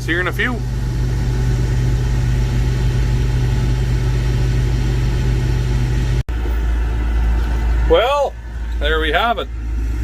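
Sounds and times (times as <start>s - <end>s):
combine harvester engine running: 0.0s - 10.0s.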